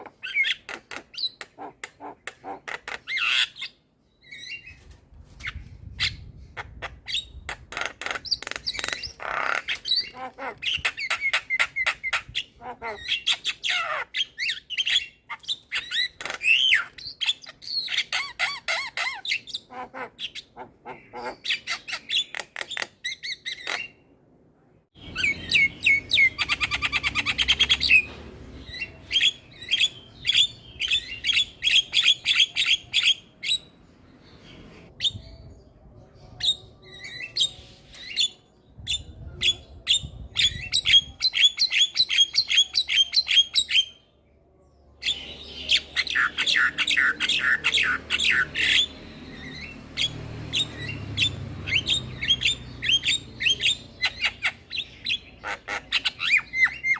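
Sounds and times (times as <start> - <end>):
myna bird singing: 0.0 - 24.1, 24.9 - 56.9.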